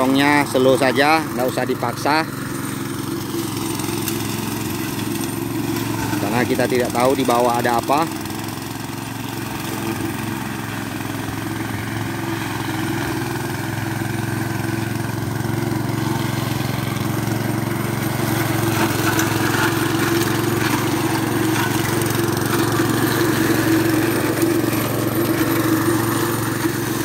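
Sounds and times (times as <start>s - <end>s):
brush cutter engine running: 0.0s - 27.0s.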